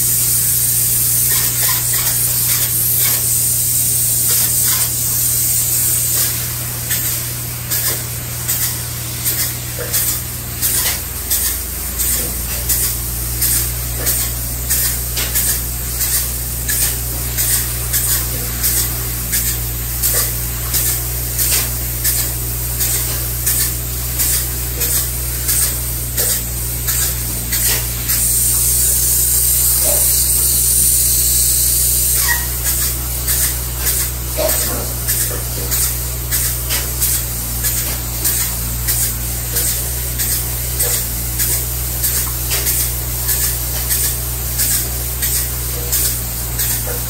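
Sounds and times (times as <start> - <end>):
spray foam gun hissing: 0.0 - 47.0.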